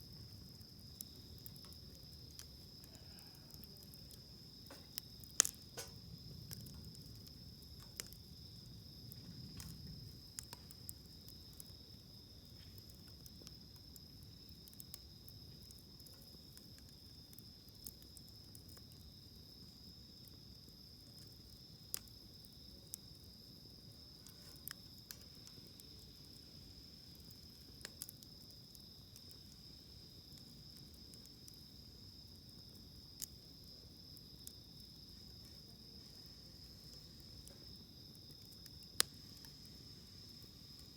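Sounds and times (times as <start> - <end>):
campfire crackling and popping: 0.0 - 40.9
insect trill: 0.0 - 40.9.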